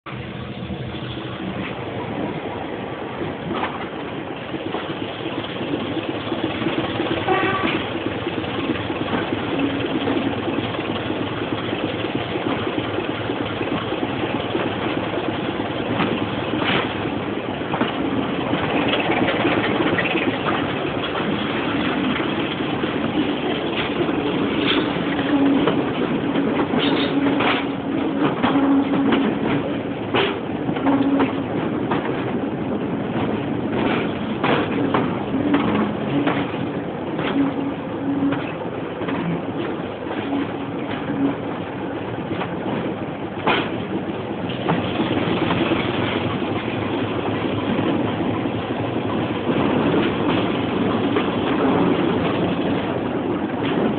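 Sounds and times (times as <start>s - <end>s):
diesel locomotive engine: 0.0s - 53.9s
moving train noise: 0.0s - 53.9s.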